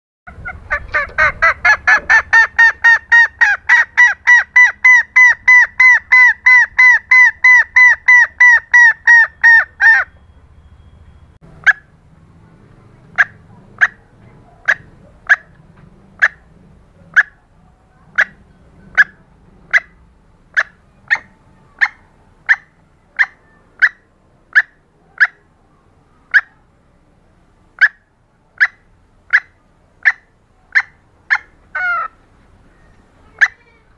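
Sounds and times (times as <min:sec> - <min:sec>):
junglefowl clucking calls: 0:00.3 - 0:10.3, 0:11.6 - 0:11.9, 0:13.1 - 0:16.5, 0:17.1 - 0:25.5, 0:26.2 - 0:26.6, 0:27.8 - 0:32.3, 0:32.9 - 0:33.7.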